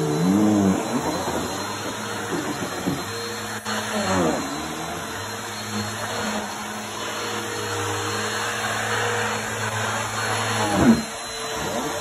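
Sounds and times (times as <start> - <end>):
vacuum cleaner running over carpet: 0.0 - 12.0.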